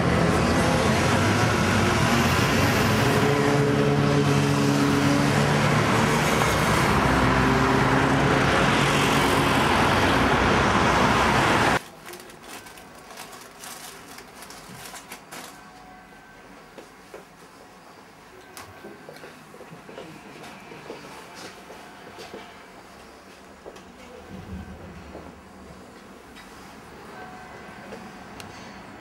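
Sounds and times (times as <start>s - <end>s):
city street traffic: 0.0s - 11.9s, 15.1s - 29.0s.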